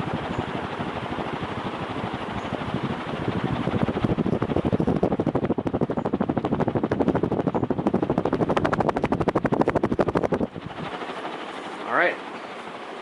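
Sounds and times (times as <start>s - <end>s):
ceiling fan chopping air: 0.0s - 13.0s.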